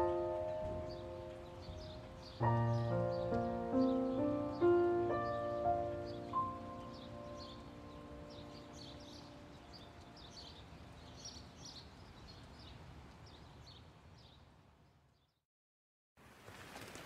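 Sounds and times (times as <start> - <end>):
low background hiss: 0.0 - 14.9.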